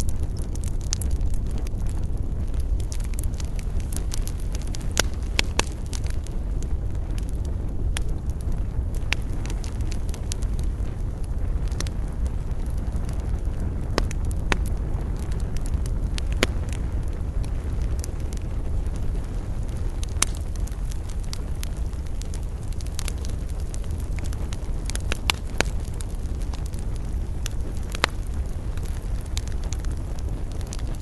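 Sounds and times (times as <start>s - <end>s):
campfire crackling and popping: 0.0s - 31.0s
low rumble: 0.0s - 31.0s.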